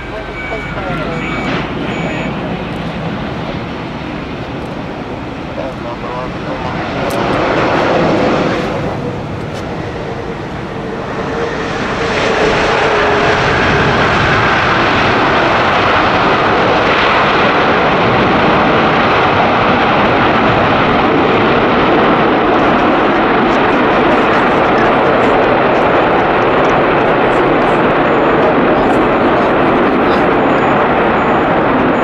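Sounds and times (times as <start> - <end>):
jet engines roaring: 0.0 - 32.0
steady whine: 0.0 - 32.0.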